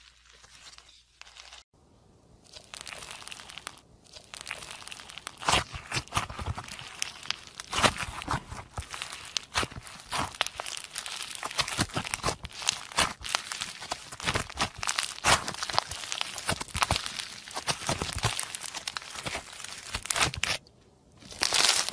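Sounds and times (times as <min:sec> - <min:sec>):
slime crackling with small pops: 0:02.6 - 0:20.6.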